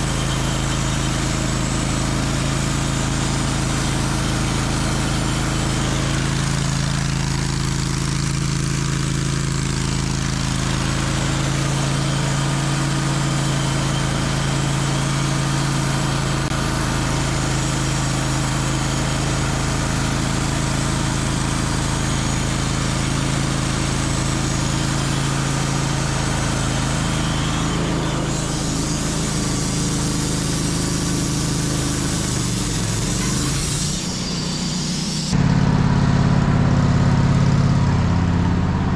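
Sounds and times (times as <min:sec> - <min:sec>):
saw hissing through log: 0:00.0 - 0:35.5
sawmill engine hum: 0:00.0 - 0:38.9.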